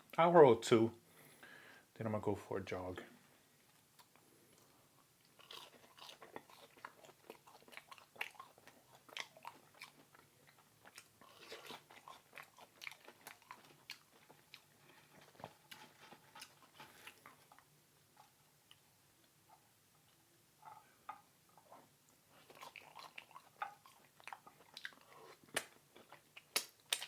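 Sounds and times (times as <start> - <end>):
chewing food: 3.6 - 27.0.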